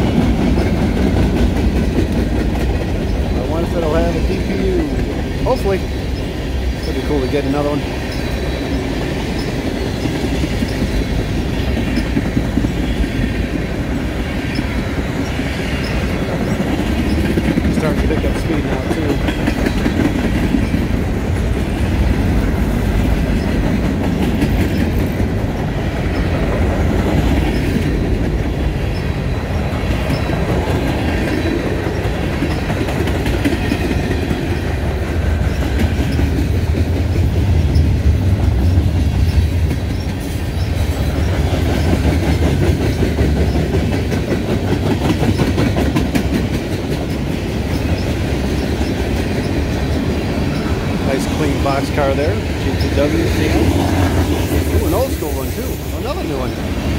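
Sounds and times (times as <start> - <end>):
clickety-clack over rail joints: 0.0 - 56.9
train wheels rumbling on rail: 0.0 - 56.9.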